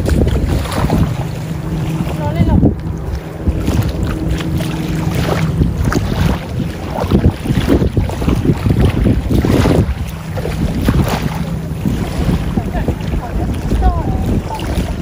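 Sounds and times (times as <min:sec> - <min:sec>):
water lapping and splashing: 0:00.0 - 0:15.0
wind buffeting microphone: 0:00.0 - 0:15.0.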